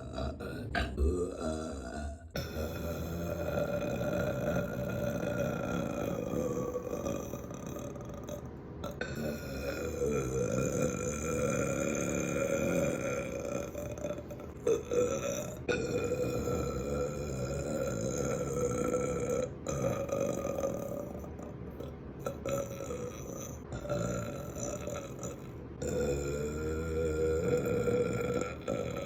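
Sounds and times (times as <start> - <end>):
woman belching: 0.0 - 21.5, 22.3 - 29.0.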